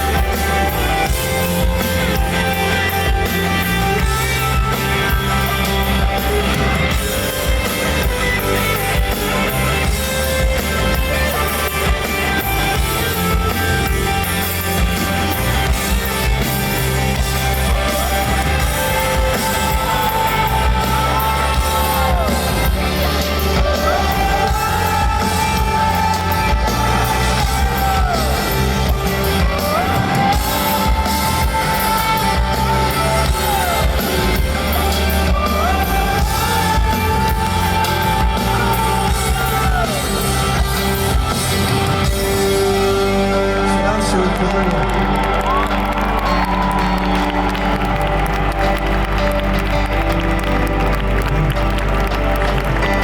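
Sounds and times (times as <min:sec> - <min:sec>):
crowd shouts: 0:00.0 - 0:53.0
live rock band: 0:00.0 - 0:53.0.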